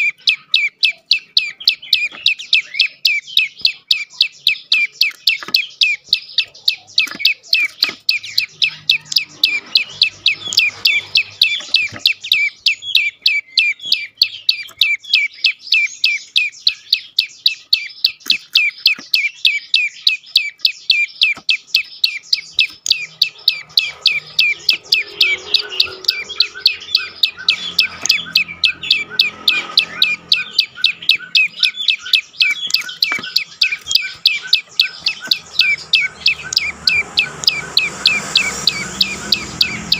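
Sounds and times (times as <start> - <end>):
bird chirping sharply: 0.0 - 39.9.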